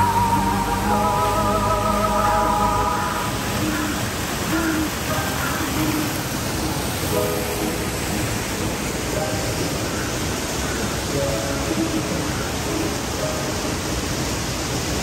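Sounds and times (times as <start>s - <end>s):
voices: 0.0s - 14.0s
faint music: 0.0s - 15.0s
fountain water rushing: 0.0s - 15.0s.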